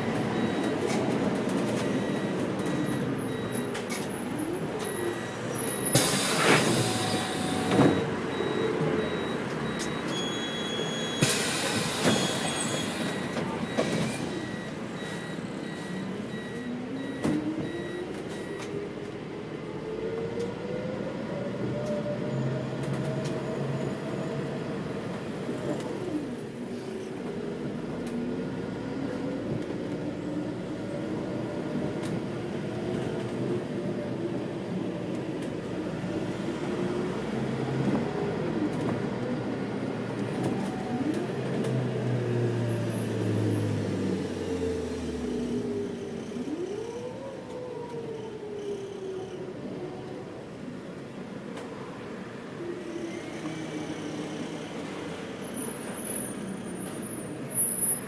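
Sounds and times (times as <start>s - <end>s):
bus engine pulling away: 0.0s - 58.0s.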